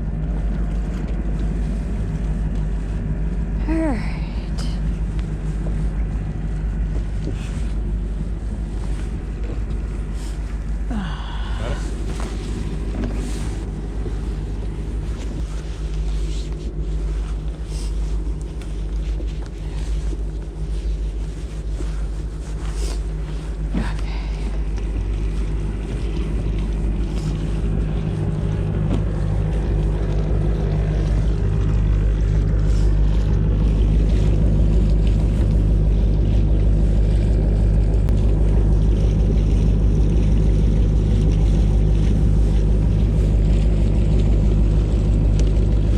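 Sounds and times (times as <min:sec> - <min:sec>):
motorboat engine humming: 0:00.0 - 0:45.9.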